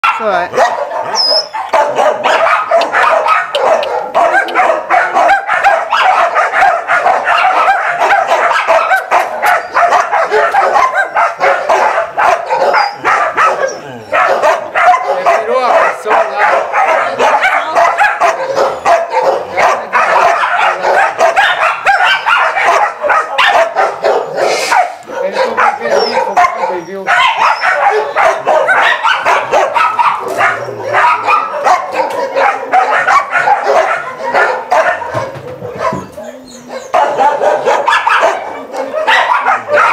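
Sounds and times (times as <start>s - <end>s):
many dogs barking: 0.0s - 39.9s.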